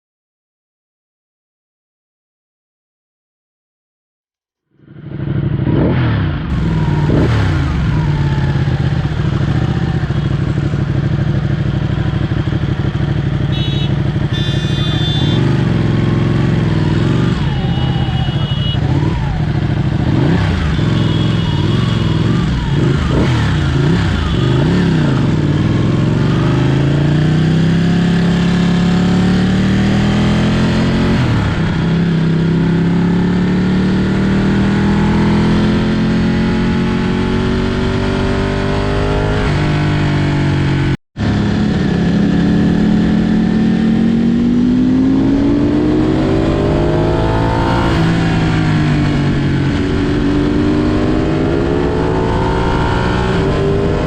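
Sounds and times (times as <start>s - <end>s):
motorcycle engine revving: 4.8s - 54.0s.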